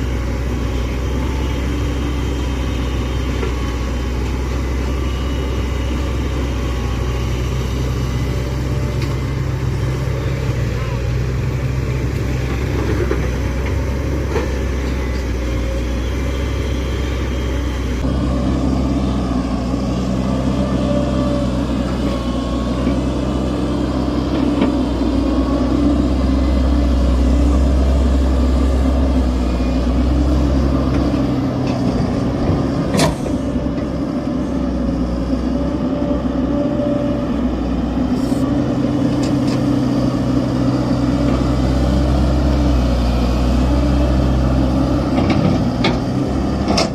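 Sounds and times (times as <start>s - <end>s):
excavator diesel engine rumbling: 0.0s - 46.9s.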